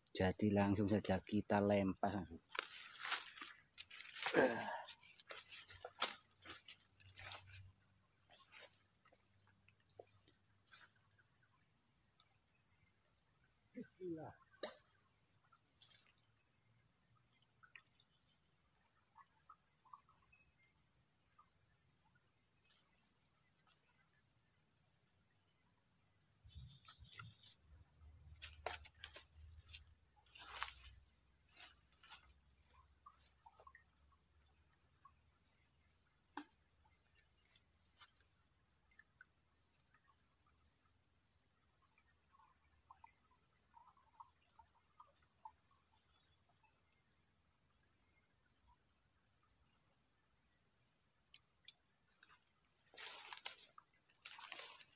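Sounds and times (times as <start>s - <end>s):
insects chorus: 0.0s - 54.9s.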